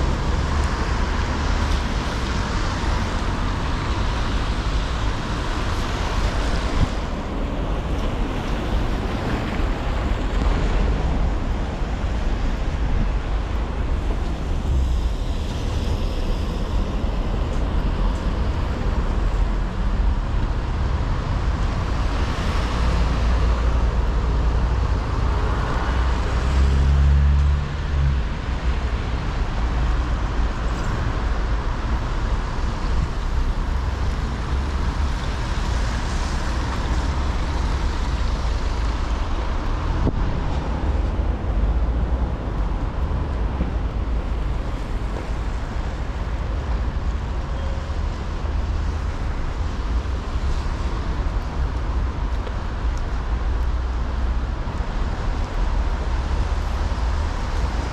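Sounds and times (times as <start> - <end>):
cars passing on wet road: 0.0 - 57.9.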